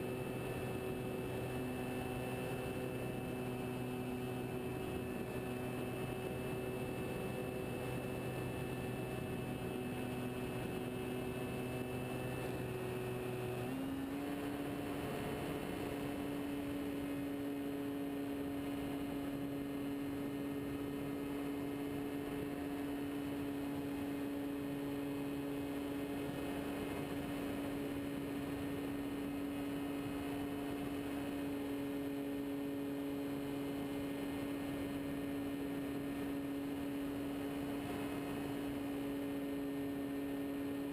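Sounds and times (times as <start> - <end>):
model airplane engine drone: 0.0 - 40.9.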